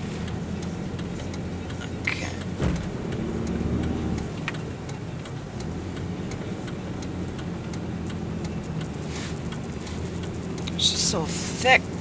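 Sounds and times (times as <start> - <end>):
car engine running inside cabin: 0.0 - 12.0
rapid ticking: 0.0 - 12.0.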